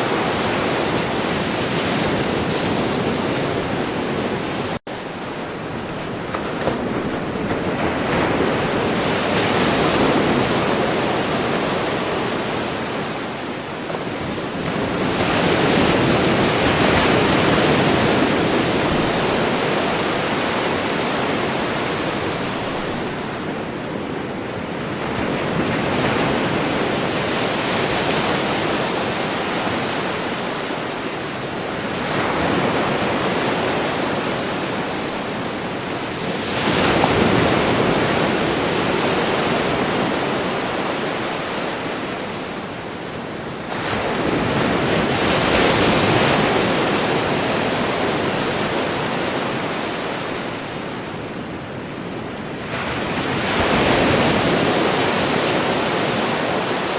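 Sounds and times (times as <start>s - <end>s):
sea waves breaking on shore: 0.0s - 56.9s.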